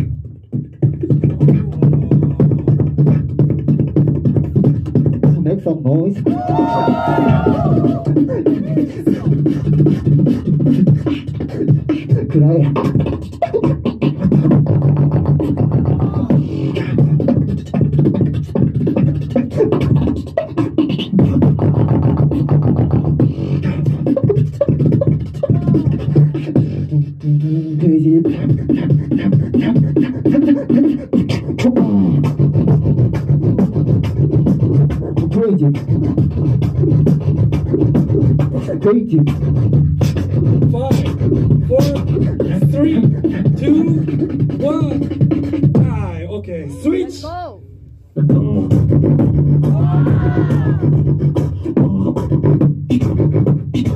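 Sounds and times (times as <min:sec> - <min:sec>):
person beatboxing into microphone: 0:00.0 - 0:53.9.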